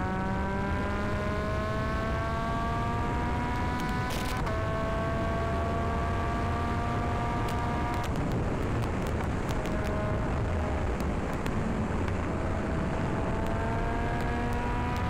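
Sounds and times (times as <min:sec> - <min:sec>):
motorcycle engine revving: 0:00.0 - 0:15.0
wind and road noise: 0:00.0 - 0:15.0.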